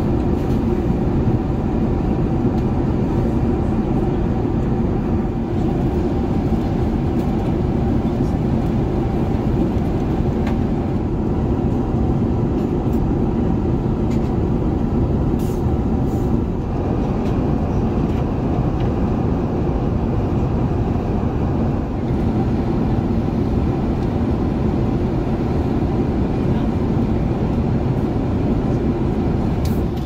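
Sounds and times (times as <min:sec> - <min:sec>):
airliner cabin engine rush: 0:00.0 - 0:30.0.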